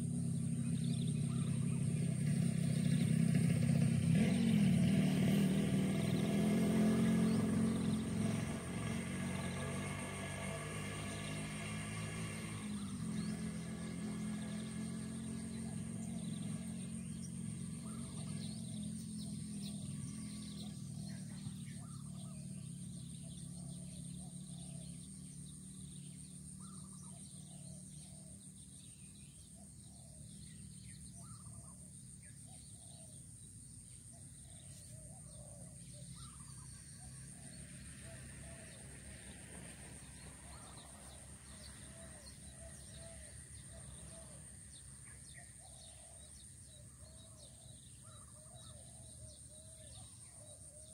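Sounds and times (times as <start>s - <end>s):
distant bird chirps: 0.0s - 50.9s.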